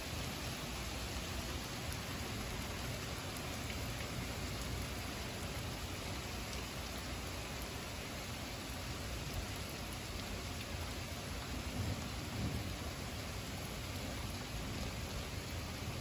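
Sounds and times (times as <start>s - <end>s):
heavy rain on pavement: 0.0s - 16.0s.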